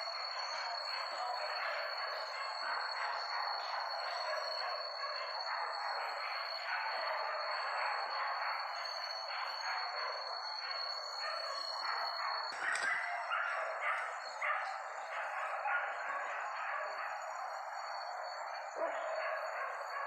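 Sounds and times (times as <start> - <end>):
dogs barking and yelping: 0.3 - 20.0.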